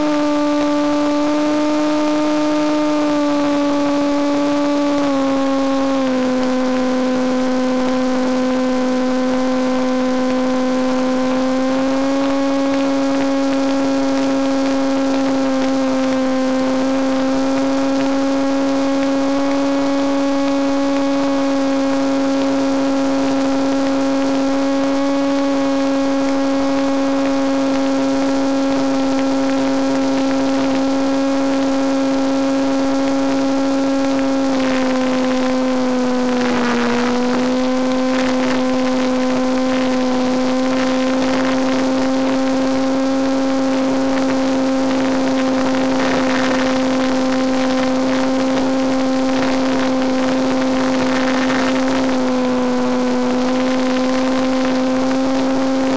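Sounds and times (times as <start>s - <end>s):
model airplane motor whine: 0.0s - 55.9s.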